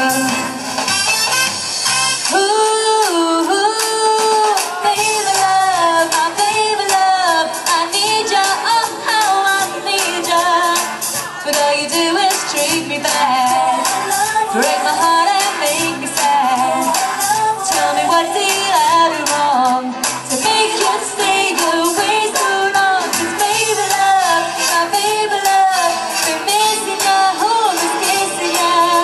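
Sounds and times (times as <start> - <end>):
woman singing pop song: 0.0 - 0.8, 2.2 - 29.0.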